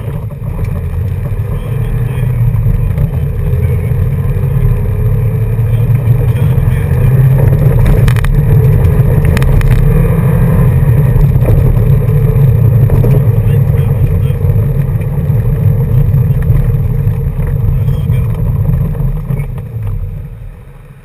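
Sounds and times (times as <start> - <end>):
car engine and tyre rumble on gravel: 0.0 - 21.0.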